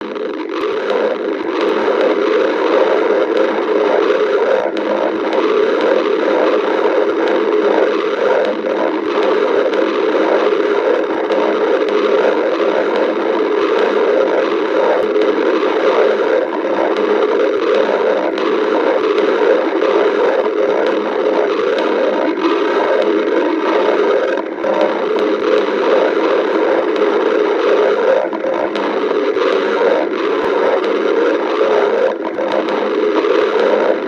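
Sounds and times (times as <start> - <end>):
stomach growling: 0.0 - 34.0.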